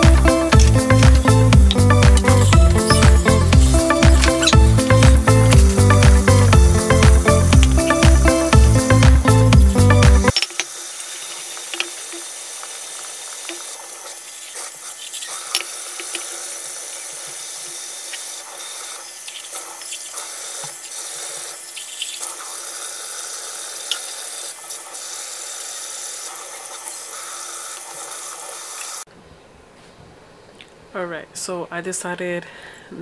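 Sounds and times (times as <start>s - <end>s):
running water: 0.0s - 29.1s.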